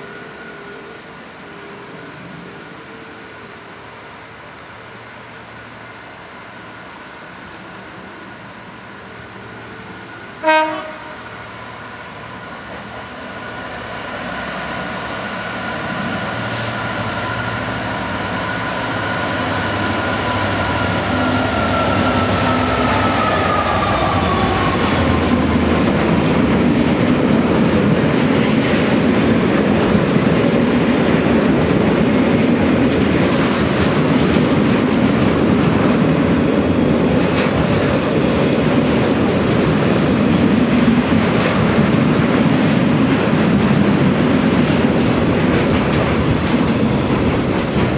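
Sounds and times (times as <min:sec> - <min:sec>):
diesel locomotive engine passing: 0:00.0 - 0:47.9.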